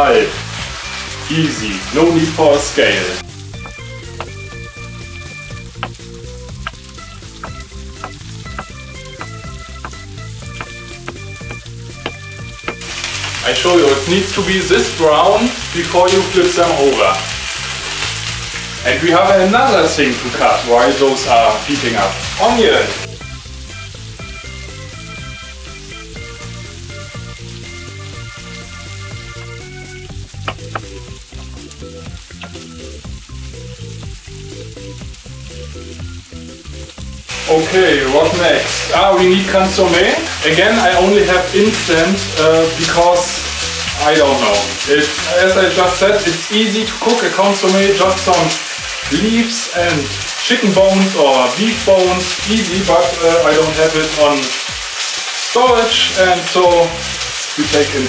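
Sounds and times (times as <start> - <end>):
light background melody: 0.0 - 54.3
bacon sizzling in a pan: 0.0 - 58.0.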